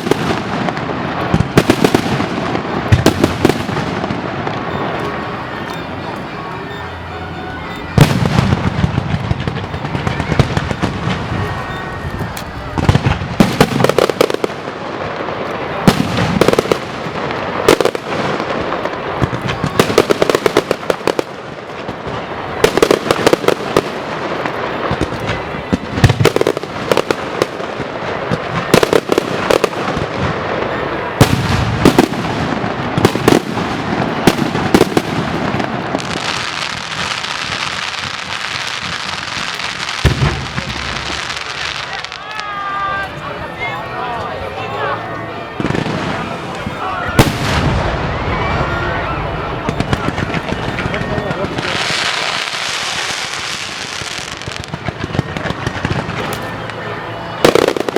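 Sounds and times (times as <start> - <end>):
firecrackers banging: 0.0 - 57.9.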